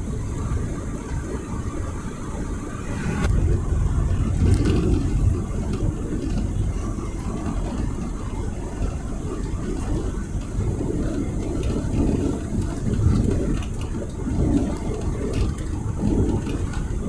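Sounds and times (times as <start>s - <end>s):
car engine and road noise: 0.8s - 15.0s.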